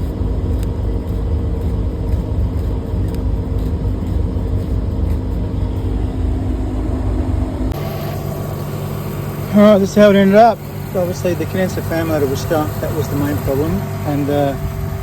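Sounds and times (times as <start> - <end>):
machinery low drone: 0.0 - 15.0.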